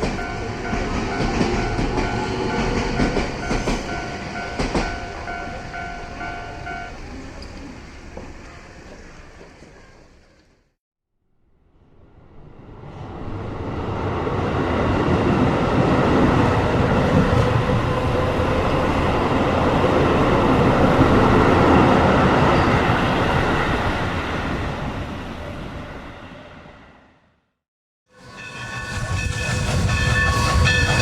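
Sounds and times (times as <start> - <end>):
train rumbling on rails: 0.0 - 10.7, 11.8 - 27.2, 28.1 - 31.0.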